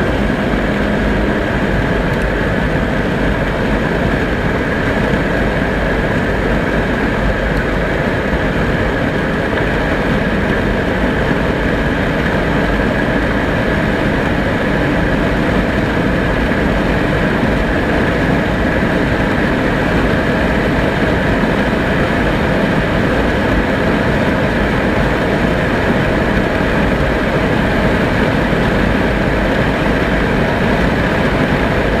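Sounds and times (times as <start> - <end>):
car engine accelerating: 0.0 - 32.0
road noise: 0.0 - 32.0
wind noise: 0.0 - 32.0.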